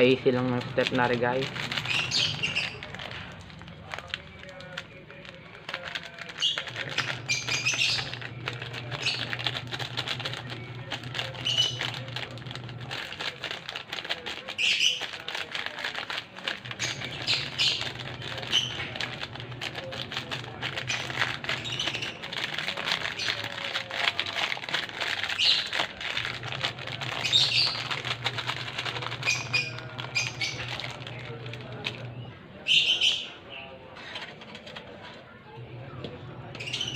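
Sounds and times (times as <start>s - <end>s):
birds chirping: 0.0s - 13.5s, 14.2s - 36.9s
plastic sachets crinkling: 0.0s - 32.2s, 34.1s - 35.1s.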